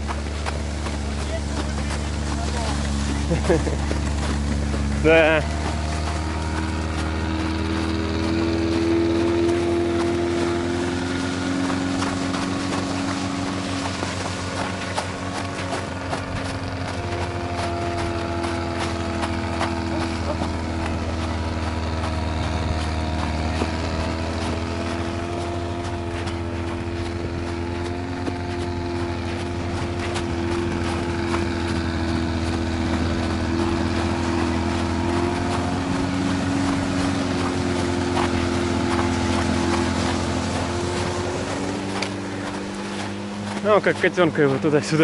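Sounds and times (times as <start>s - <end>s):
vehicle engines droning: 0.0s - 45.0s.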